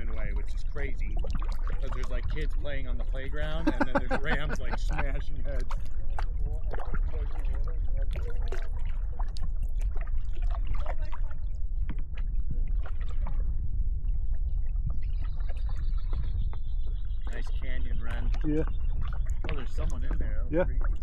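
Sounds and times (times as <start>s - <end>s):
kayak paddle splashing water: 0.0s - 21.0s
wind rumble on microphone: 0.0s - 21.0s.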